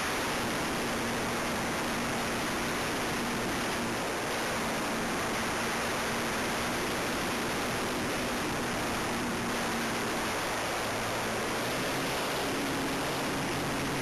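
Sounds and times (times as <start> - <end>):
faint aircraft motor hum: 0.0 - 14.0
wind rushing on microphone: 0.0 - 14.0.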